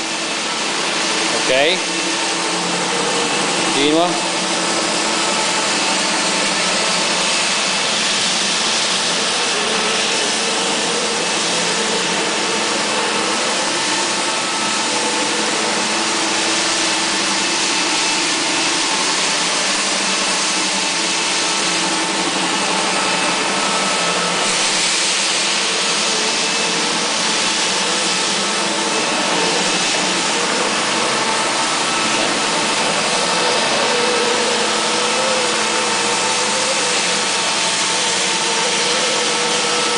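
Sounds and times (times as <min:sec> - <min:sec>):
floor scrubber whirring hiss: 0:00.0 - 0:39.9.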